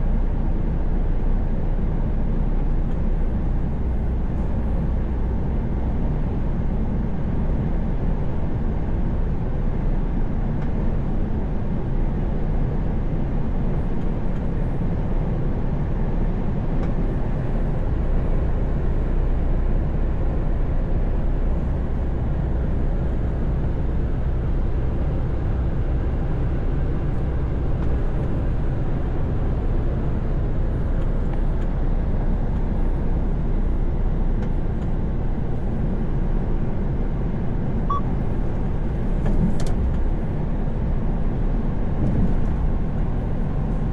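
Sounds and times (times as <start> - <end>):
truck engine drone: 0.0 - 43.9.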